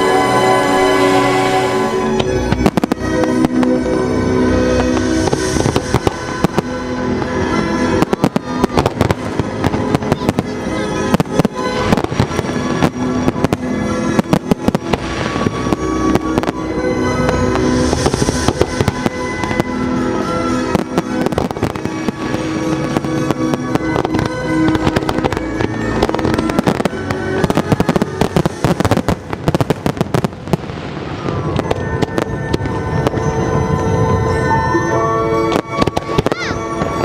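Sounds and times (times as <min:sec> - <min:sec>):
fireworks bangs and crackles: 0:00.0 - 0:37.0
music playing: 0:00.0 - 0:37.0.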